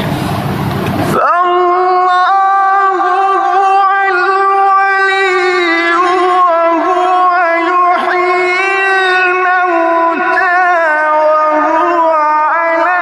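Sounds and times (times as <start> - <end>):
person chanting a long melodic note: 1.2 - 13.0.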